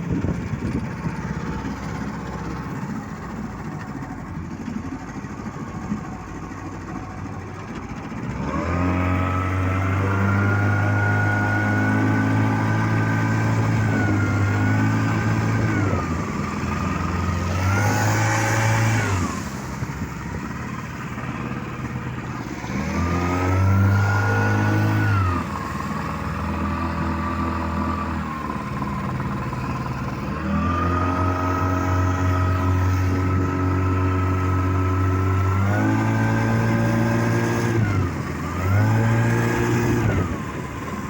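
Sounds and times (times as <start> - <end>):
two-stroke outboard motor revving: 0.0 - 41.0.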